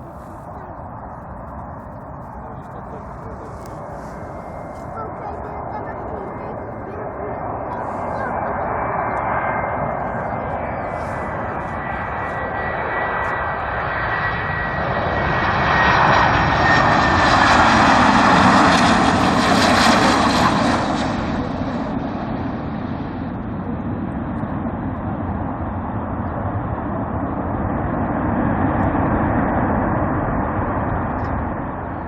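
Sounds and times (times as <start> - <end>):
jet airliner flying past: 0.0 - 32.0.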